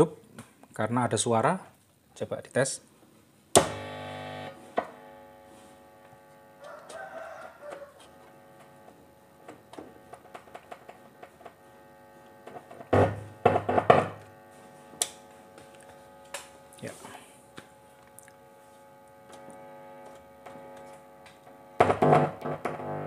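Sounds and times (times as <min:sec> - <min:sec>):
amplifier buzzing through speaker: 0:03.5 - 0:23.0.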